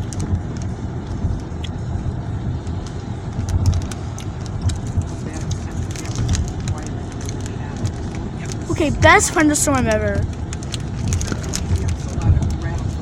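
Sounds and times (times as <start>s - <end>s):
low thunder rumble: 0.0s - 13.0s.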